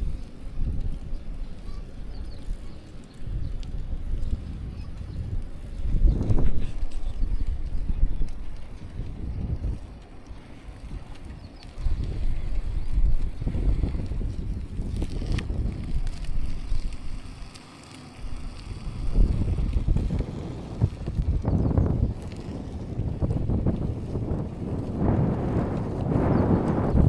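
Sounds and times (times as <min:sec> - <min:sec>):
wind buffeting microphone: 0:00.0 - 0:17.6, 0:18.2 - 0:27.0
bicycle rolling rattle: 0:00.0 - 0:27.0.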